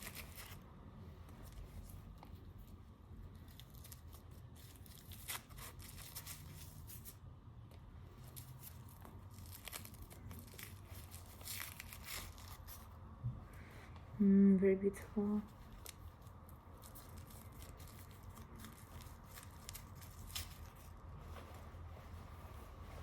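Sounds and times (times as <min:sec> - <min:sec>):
jacket rustling and crinkling: 0:00.0 - 0:07.3, 0:08.1 - 0:13.2, 0:15.4 - 0:23.0.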